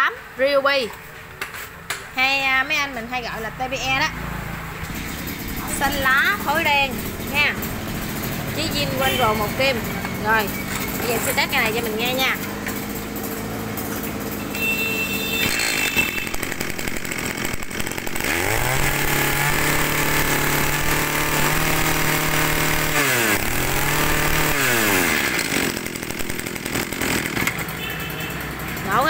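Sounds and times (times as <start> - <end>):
brush cutter engine revving: 4.0 - 29.0.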